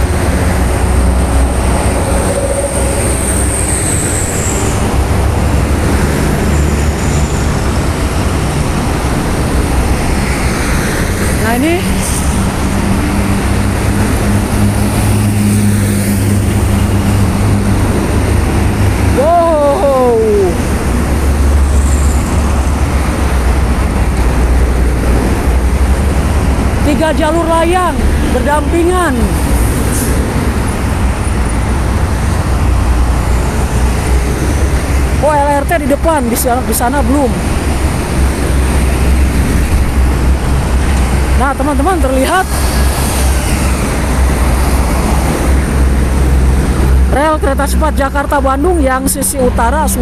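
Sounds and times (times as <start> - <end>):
heavy road traffic rumbling: 0.0 - 50.0.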